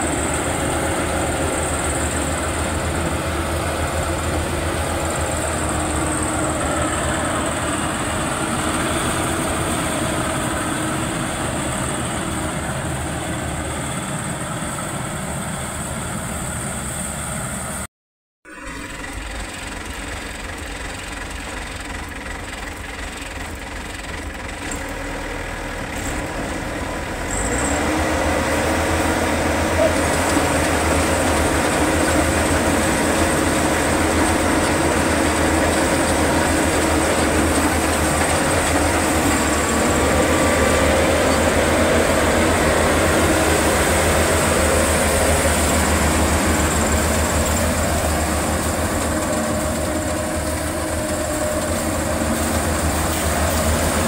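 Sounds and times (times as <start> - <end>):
combine harvester drone: 0.0 - 17.8, 18.5 - 54.0.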